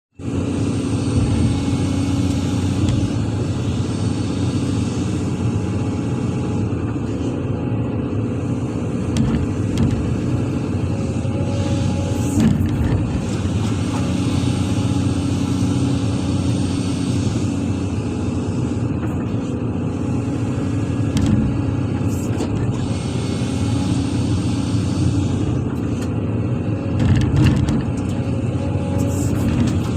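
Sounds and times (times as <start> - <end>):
heavy diesel engine running: 0.1 - 29.9.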